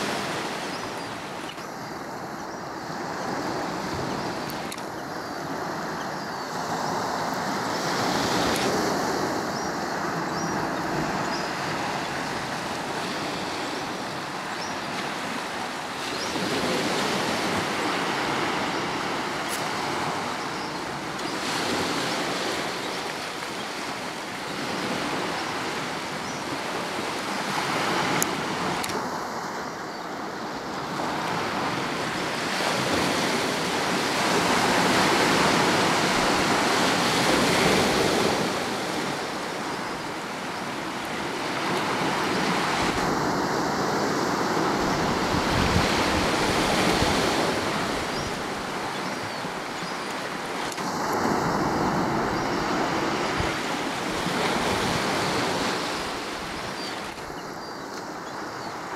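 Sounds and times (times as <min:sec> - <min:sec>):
surf washing up beach: 0:00.0 - 0:58.9.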